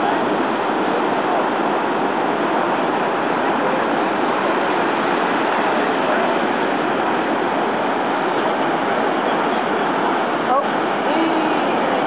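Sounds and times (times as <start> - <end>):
ocean surf washing up: 0.0 - 12.0.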